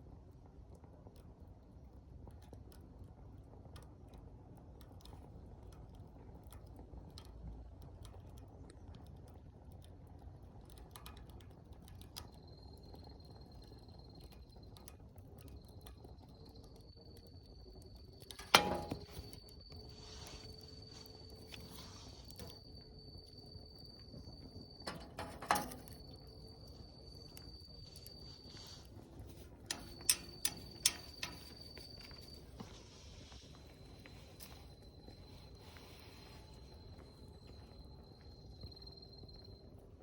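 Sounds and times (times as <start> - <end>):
low rumble of flame: 0.0 - 40.0.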